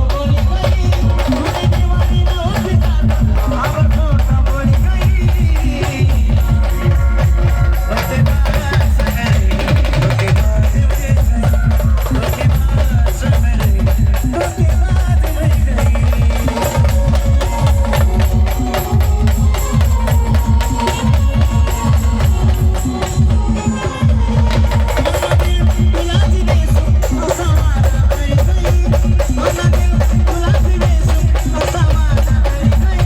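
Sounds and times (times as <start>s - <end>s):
fast heavy drumming: 0.0s - 33.0s
live band melody: 0.0s - 33.0s.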